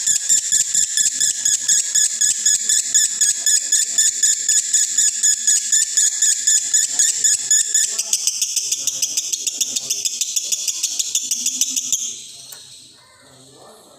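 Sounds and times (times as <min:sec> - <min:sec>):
lovebird chattering: 0:00.0 - 0:13.4.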